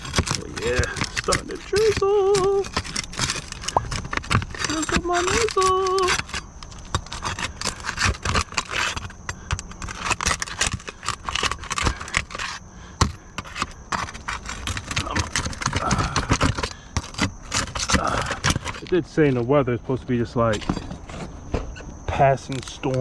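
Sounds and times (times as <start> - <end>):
shingles scraping and rattling: 0.0 - 23.0.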